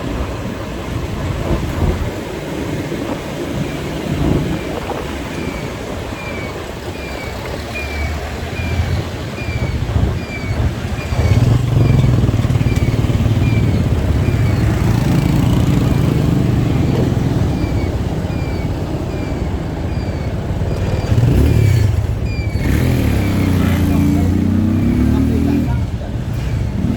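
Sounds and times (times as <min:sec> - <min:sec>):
motorcycle engine running: 0:00.1 - 0:26.9.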